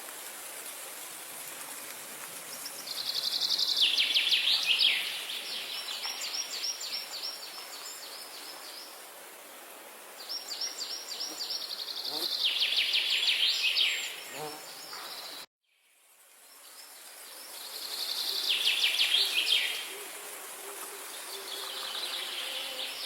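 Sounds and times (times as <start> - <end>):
rushing water hiss: 0.0 - 23.0.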